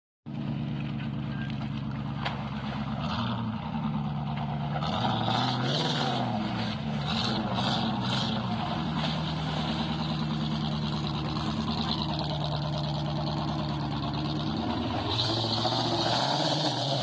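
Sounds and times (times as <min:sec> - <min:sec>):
misfiring engine running: 0:00.3 - 0:17.0.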